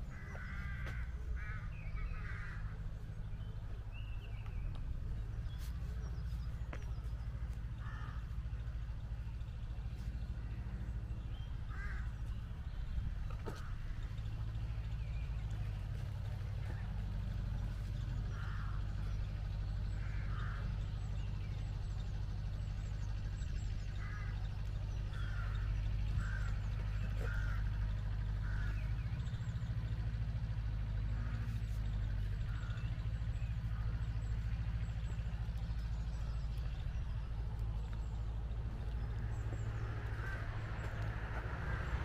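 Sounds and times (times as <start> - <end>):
birds calling: 0.0 - 42.0
low rumble: 0.0 - 42.0.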